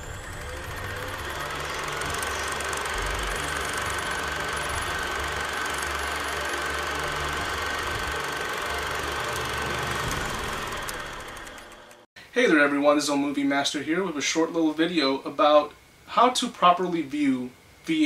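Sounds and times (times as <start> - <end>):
mechanical whirring with high whine: 0.0 - 12.1, 13.1 - 18.0.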